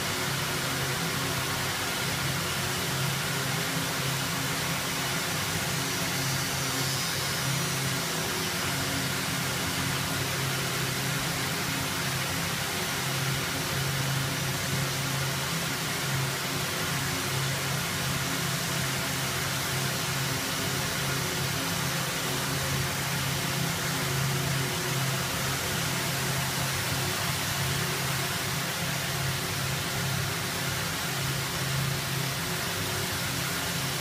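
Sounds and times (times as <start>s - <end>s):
spindles whirring hiss: 0.0s - 34.0s.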